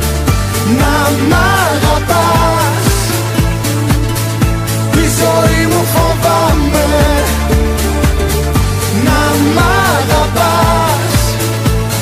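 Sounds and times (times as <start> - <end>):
pop song playing: 0.0 - 12.0.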